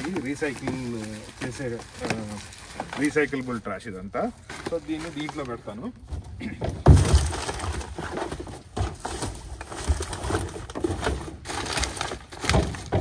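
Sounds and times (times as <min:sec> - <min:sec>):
plastic bags rustling: 0:00.0 - 0:06.1, 0:06.8 - 0:13.0.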